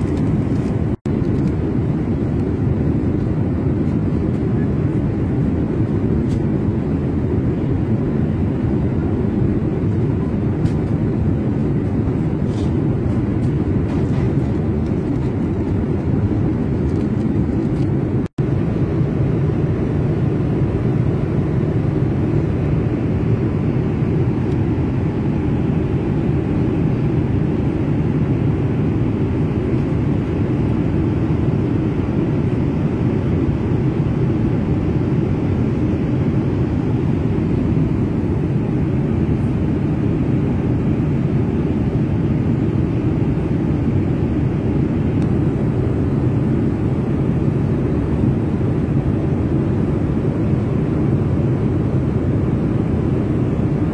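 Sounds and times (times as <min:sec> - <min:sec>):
airliner cabin engine roar: 0:00.0 - 0:53.9.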